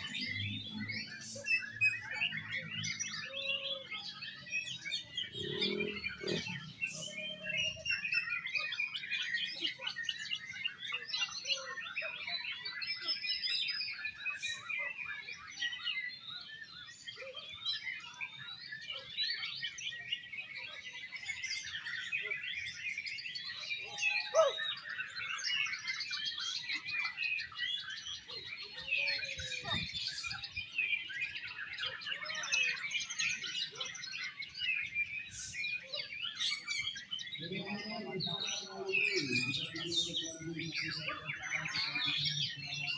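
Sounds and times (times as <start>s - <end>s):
birds chirping and whistling: 0.0s - 42.9s.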